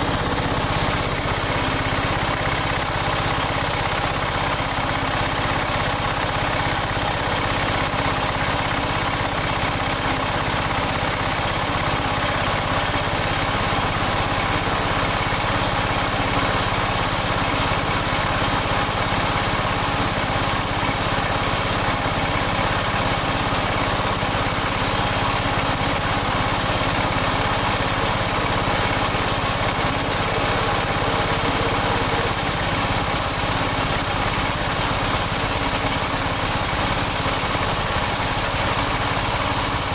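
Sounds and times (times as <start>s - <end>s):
snowblower engines running: 0.0s - 39.9s.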